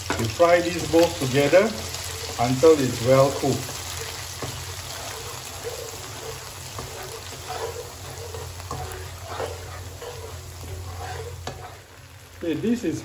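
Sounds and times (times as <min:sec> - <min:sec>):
spatula scraping wok: 0:00.0 - 0:12.3
paste sizzling in hot oil: 0:00.0 - 0:13.0.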